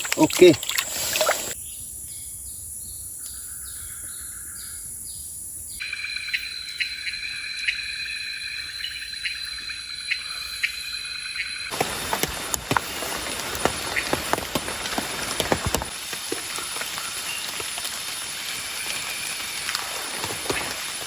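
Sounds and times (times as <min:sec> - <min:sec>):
high insect drone: 0:02.5 - 0:21.0
birds calling: 0:02.9 - 0:21.0.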